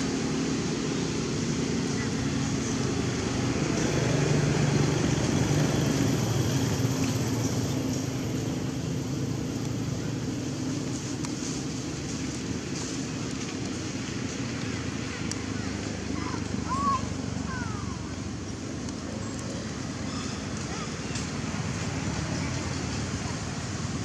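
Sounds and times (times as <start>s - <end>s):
passing vehicle engine drone: 0.0s - 24.0s.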